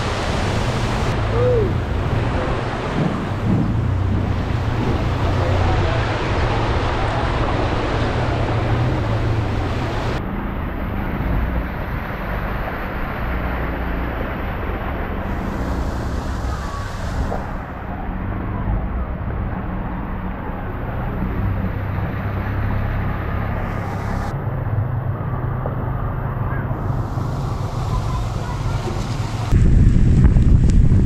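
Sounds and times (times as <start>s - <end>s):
vehicles driving through floodwater: 0.0s - 30.6s
low rumble and hiss: 0.0s - 31.0s.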